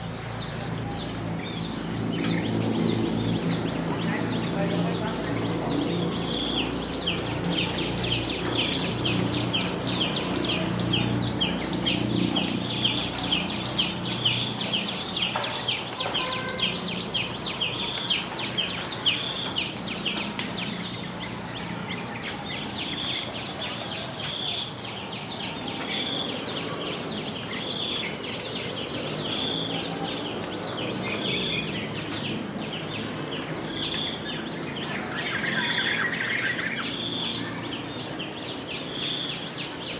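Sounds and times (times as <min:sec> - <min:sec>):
birds and insects chirping: 0:00.0 - 0:39.9.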